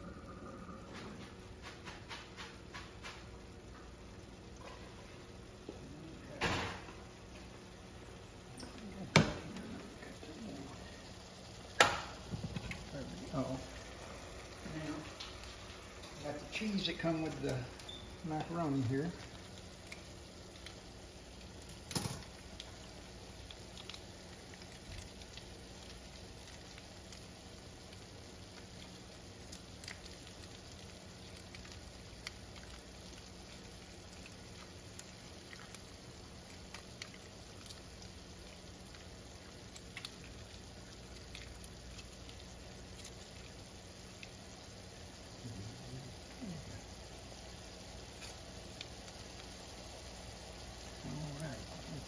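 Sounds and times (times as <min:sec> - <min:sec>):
meat crackling in a skillet: 0:00.0 - 0:52.0.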